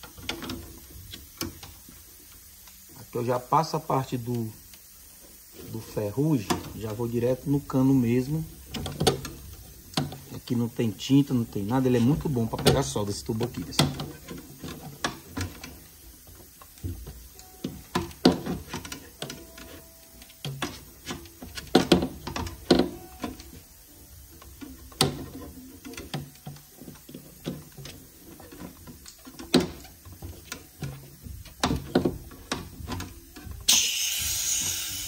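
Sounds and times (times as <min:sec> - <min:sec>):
gas hissing from pipe: 0:00.0 - 0:35.0.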